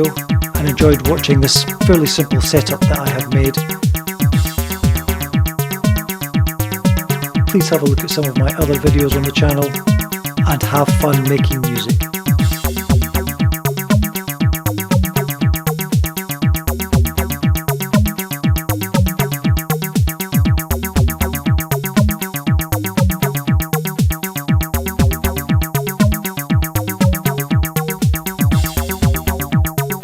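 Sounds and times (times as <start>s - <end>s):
hi-hats: 0.0s - 16.3s, 18.0s - 30.0s
analogue synth bassline: 0.0s - 30.0s
staccato synth riff: 0.0s - 30.0s
steady house kick drum: 0.0s - 30.0s.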